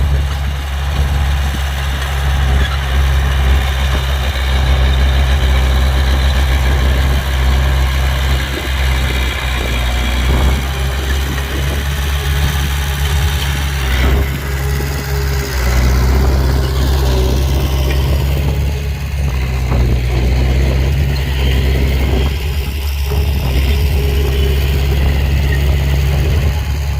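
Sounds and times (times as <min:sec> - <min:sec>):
engine droning: 0:00.0 - 0:26.9.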